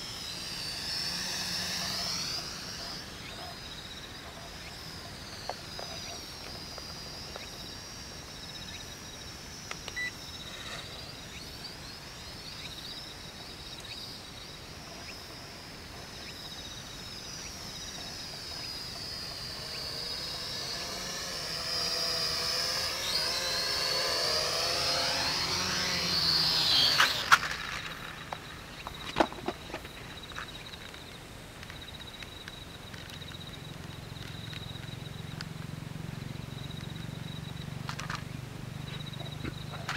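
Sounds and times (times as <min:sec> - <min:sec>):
toy quadcopter motors whining: 0:00.0 - 0:39.9.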